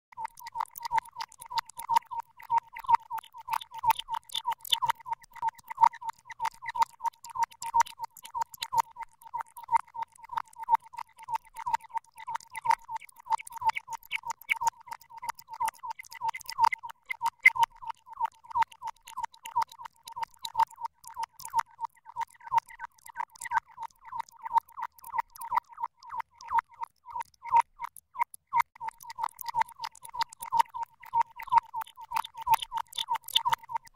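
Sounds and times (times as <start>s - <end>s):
rapid ticking clicks: 0.1s - 33.9s.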